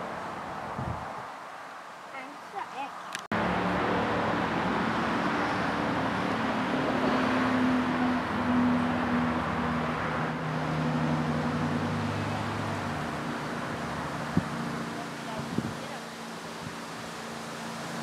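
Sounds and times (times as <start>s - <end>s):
vehicle engines humming: 0.0s - 18.0s.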